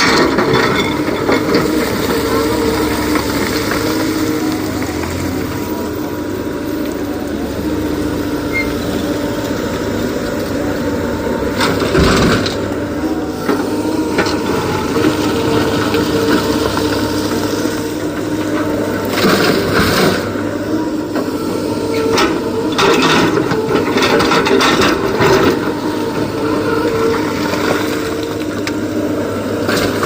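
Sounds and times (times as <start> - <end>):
heavy diesel machinery: 0.0 - 30.0.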